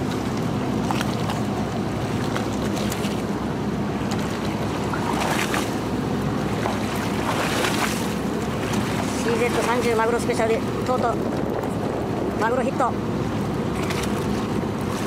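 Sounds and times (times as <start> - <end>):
boat engine idling: 0.0 - 15.0
water washing against hull: 0.0 - 15.0
wind buffeting microphone: 2.6 - 15.0.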